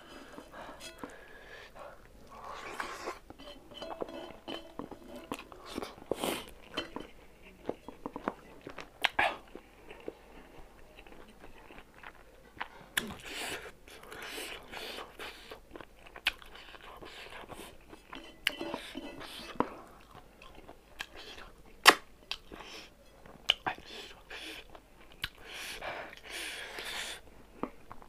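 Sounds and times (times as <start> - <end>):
close-up chewing: 0.0 - 21.5, 22.2 - 28.0.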